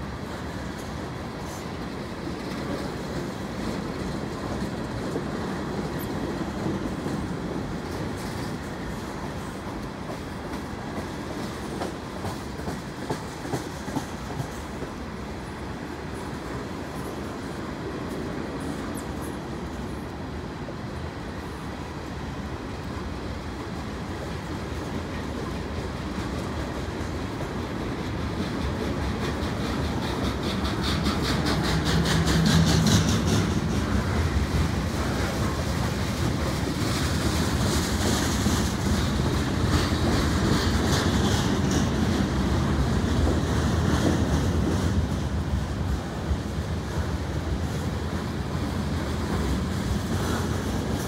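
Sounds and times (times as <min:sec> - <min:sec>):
freight train cars rolling: 0:00.0 - 0:51.0
wheels clickety-clack on rail joints: 0:00.0 - 0:51.0.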